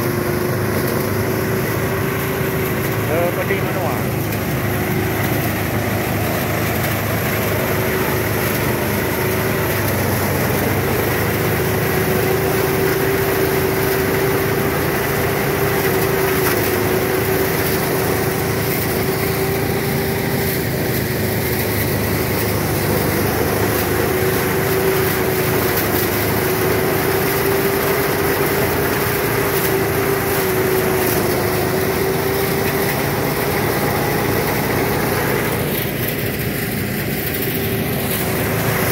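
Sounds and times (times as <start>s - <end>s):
rice thresher engine humming: 0.0s - 38.9s.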